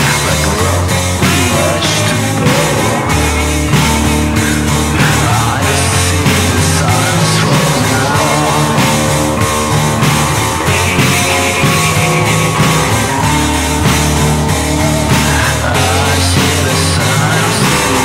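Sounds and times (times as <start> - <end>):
post-punk rock song: 0.0 - 18.0
ringing guitar part: 0.0 - 18.0.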